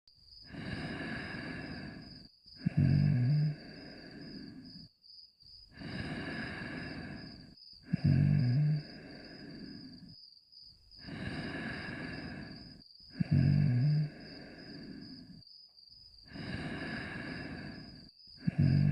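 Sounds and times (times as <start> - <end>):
cartoon dog snoring: 0.4 - 4.9, 5.7 - 10.1, 11.0 - 15.4, 16.3 - 18.9.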